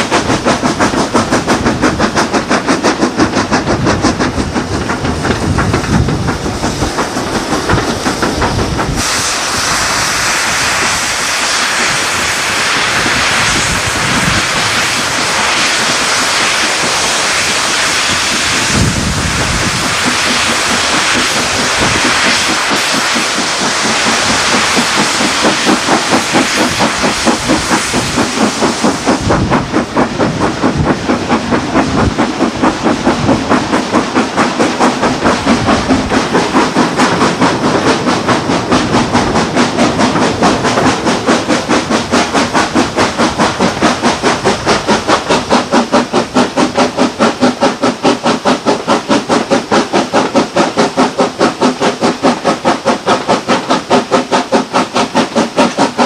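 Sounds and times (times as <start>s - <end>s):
loud steam hiss: 0.0s - 56.0s
steam locomotive chuffing: 0.0s - 56.0s.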